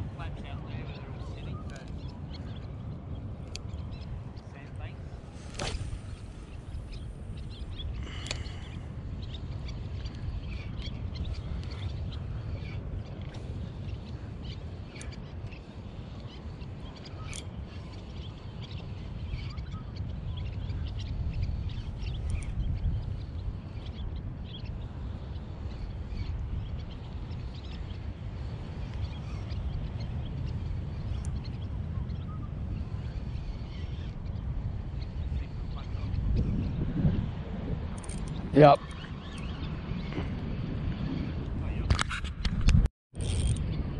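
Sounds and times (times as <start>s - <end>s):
steady low rumble: 0.0s - 41.9s
birds chirping: 0.0s - 42.0s.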